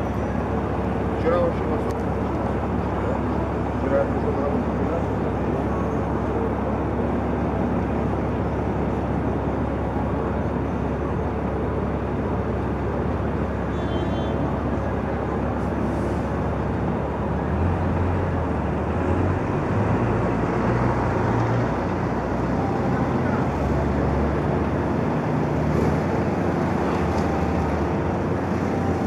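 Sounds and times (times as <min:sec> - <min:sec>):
city street traffic rumble: 0:00.0 - 0:29.0
large vehicle engine hum: 0:00.0 - 0:29.0.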